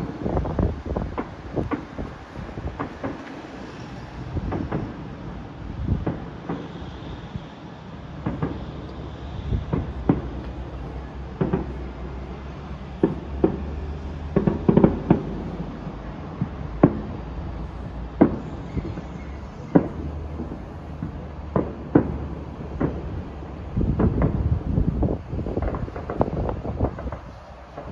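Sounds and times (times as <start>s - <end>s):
crackling reports: 0.0s - 27.9s
fireworks bursting: 0.0s - 27.9s.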